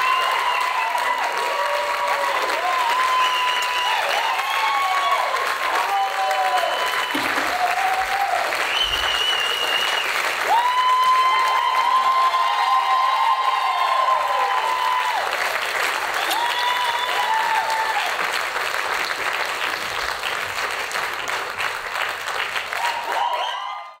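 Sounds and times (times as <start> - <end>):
high whooping cheers: 0.0 - 18.4, 22.7 - 24.0
audience applauding: 0.0 - 24.0.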